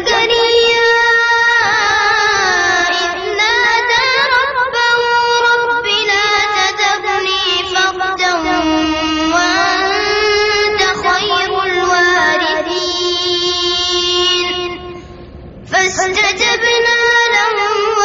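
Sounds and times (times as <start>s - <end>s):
boy reciting melodically: 0.0s - 18.0s.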